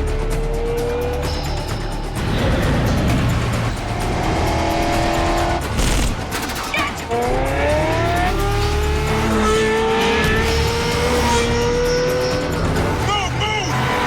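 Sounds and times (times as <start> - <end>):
car engines running hard: 0.0 - 14.0
engine revving up: 2.2 - 14.0.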